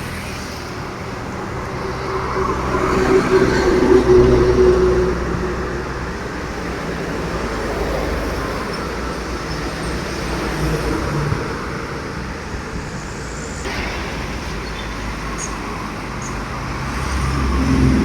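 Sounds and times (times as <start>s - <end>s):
vehicles driving past: 0.0s - 18.0s.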